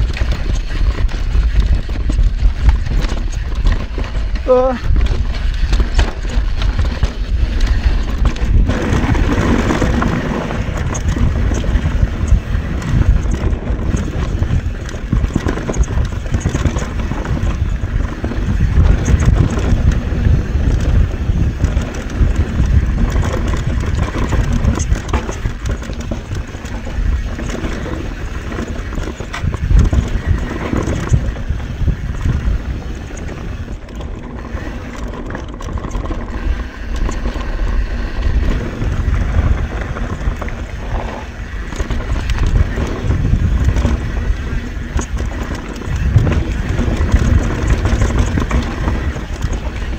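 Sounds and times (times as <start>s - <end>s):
bike tyre rumble on trail: 0.0s - 49.9s
wind on microphone: 0.0s - 49.9s.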